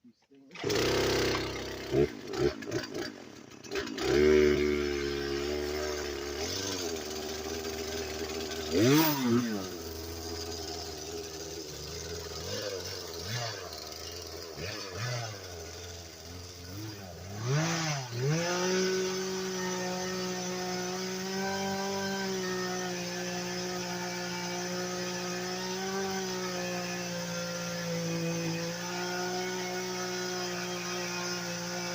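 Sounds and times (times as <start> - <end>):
chainsaw engine revving: 0.5 - 31.9.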